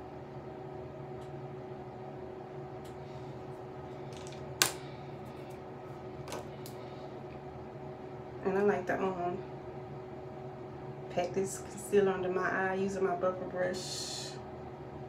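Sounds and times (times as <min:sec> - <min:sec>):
room hum with tones: 0:00.0 - 0:15.0.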